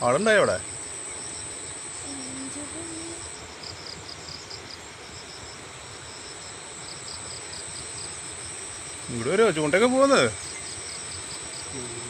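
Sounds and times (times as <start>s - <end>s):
insects buzzing and chirping: 0.0s - 12.0s.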